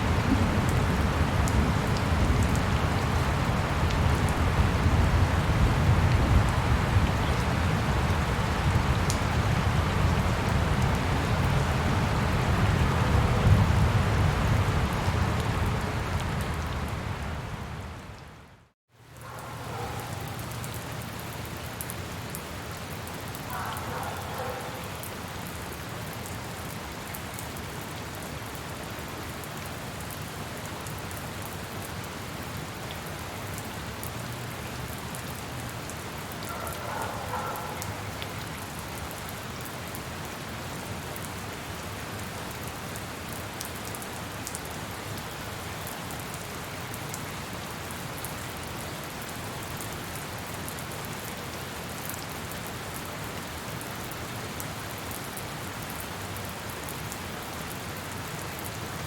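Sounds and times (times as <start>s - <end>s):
rain falling on a surface: 0.0s - 59.0s.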